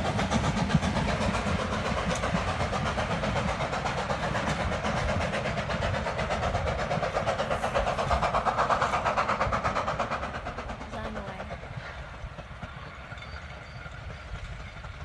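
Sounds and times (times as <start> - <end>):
steam locomotive exhaust chuffs: 0.0 - 15.0.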